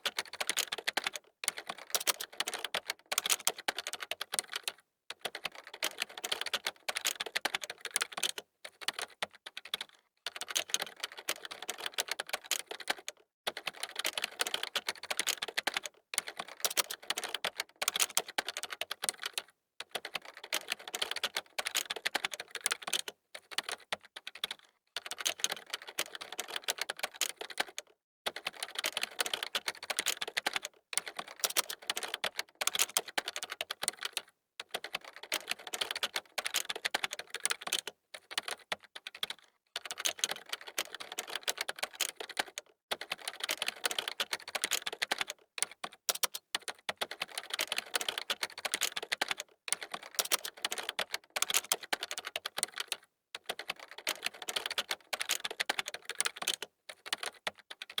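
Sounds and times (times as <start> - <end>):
fast keyboard typing: 0.0 - 58.0.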